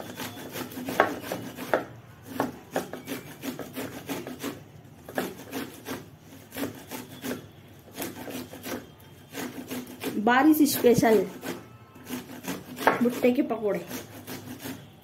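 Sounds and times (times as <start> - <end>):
corn grated on metal grater: 0.0 - 15.0.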